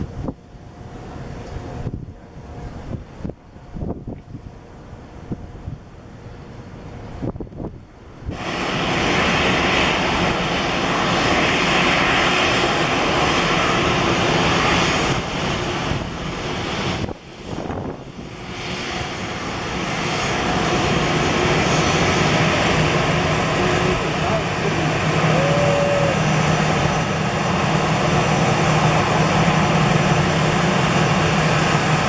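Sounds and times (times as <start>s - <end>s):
faint runway noise: 0.0s - 32.0s
jet engines roaring: 0.0s - 32.0s.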